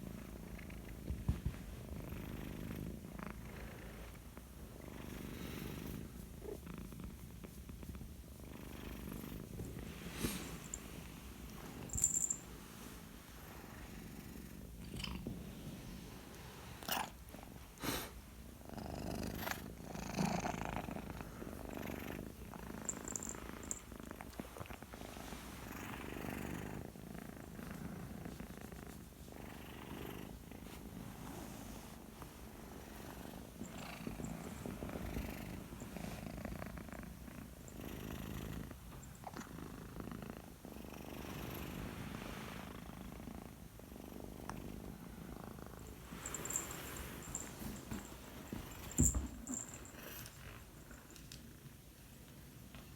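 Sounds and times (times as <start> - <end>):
cat purring: 0.0 - 51.7.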